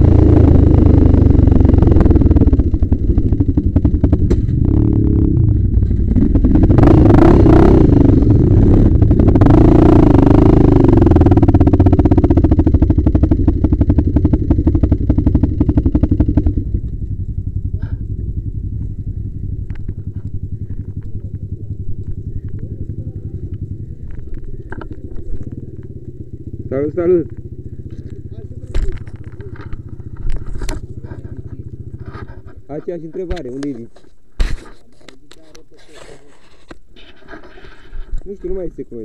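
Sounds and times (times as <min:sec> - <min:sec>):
atv engine revving and idling: 0:00.0 - 0:33.8.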